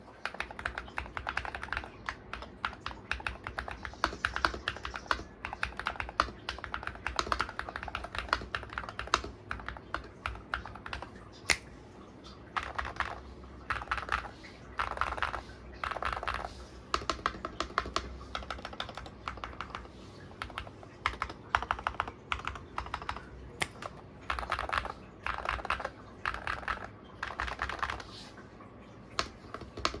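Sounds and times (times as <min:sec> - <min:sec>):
keyboard typing: 0:00.0 - 0:28.4, 0:29.1 - 0:30.0.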